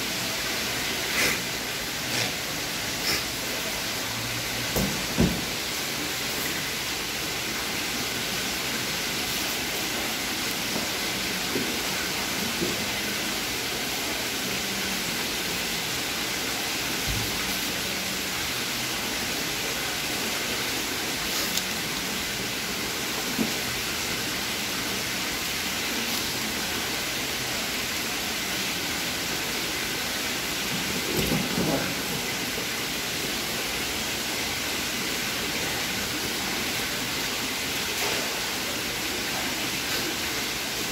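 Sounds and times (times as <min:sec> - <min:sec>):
steady hissing noise: 0:00.0 - 0:40.9.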